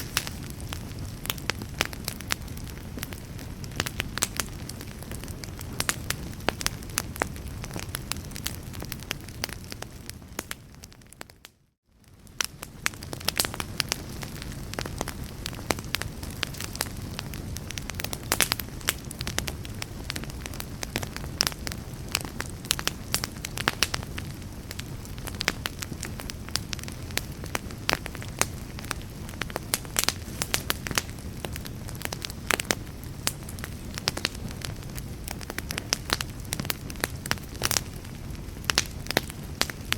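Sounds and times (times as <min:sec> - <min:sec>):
fire rumbling: 0:00.0 - 0:39.9
wood fire crackling and popping: 0:00.0 - 0:39.9.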